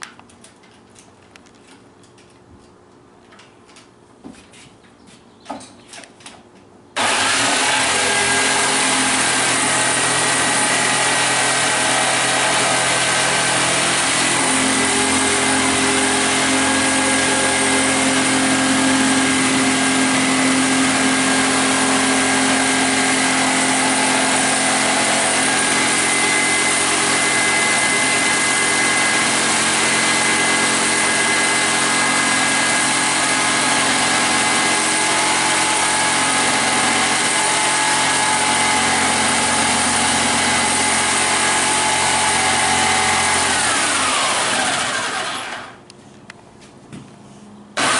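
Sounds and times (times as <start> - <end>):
electric power tool motor whine: 7.0 - 45.8.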